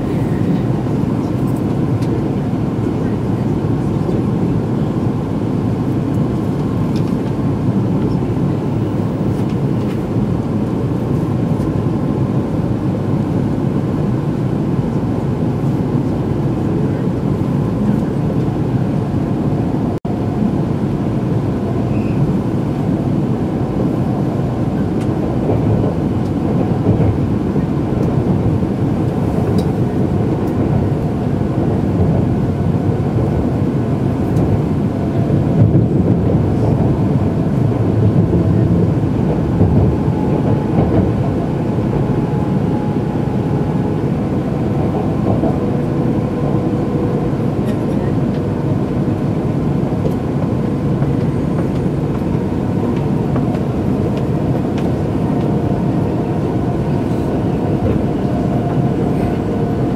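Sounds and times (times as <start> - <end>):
train rumbling inside cabin: 0.0 - 59.9.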